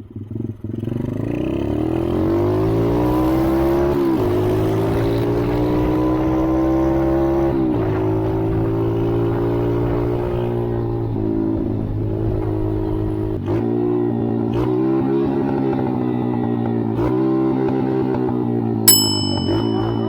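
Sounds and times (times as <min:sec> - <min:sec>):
engine accelerating hard: 0:00.5 - 0:18.8.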